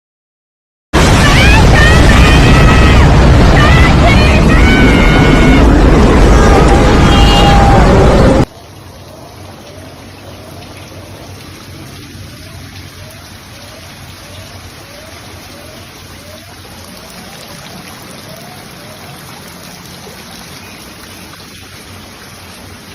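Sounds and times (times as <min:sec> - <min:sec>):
floodwater rushing: 0:01.0 - 0:22.9.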